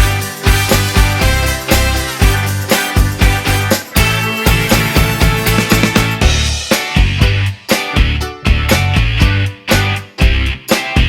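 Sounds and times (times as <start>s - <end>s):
upbeat music with guitar and drums: 0.0s - 11.0s.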